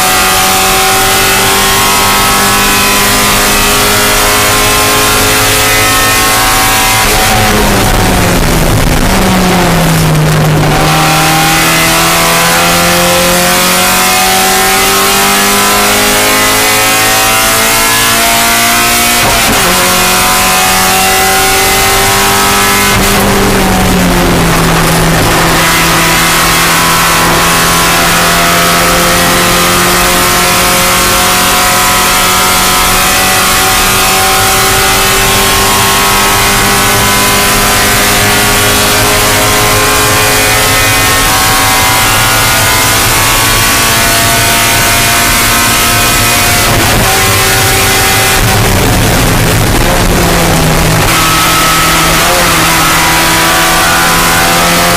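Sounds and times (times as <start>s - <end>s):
race car engine accelerating: 0.0s - 54.9s.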